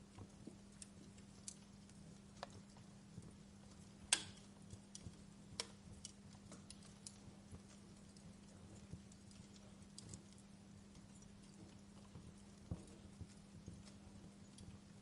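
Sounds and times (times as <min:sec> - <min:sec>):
steady low hum: 0:00.0 - 0:15.0
wood fire crackling: 0:00.0 - 0:15.0.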